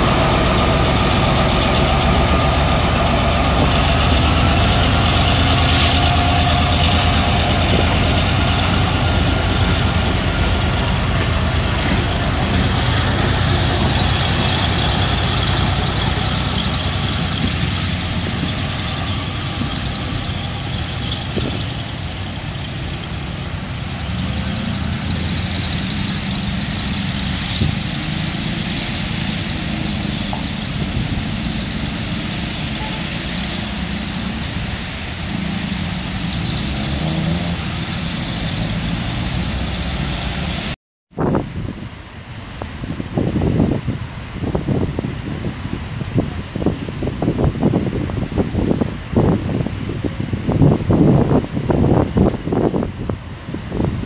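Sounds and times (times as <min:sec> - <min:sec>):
cars passing on wet road: 0:00.0 - 0:54.0
diesel locomotive engine rumbling: 0:00.0 - 0:54.0.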